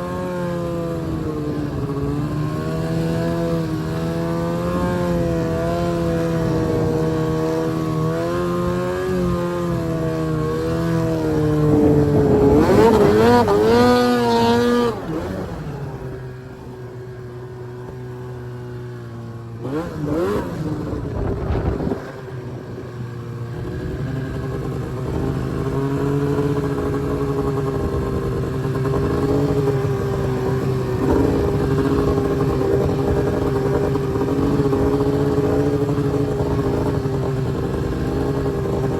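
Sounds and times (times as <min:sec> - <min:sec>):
snowmobile engine revving: 0:00.0 - 0:38.9.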